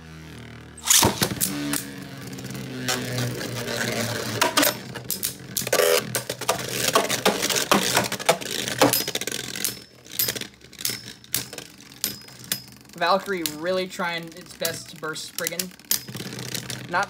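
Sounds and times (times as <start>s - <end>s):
spinning tops clashing: 0.8s - 2.0s, 2.7s - 17.0s.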